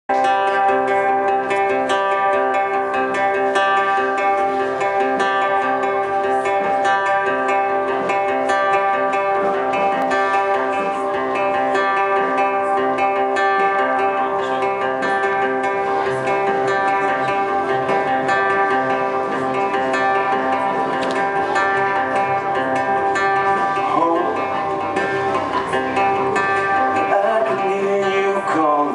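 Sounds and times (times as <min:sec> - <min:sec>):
acoustic guitar strumming chords: 0:00.1 - 0:28.9.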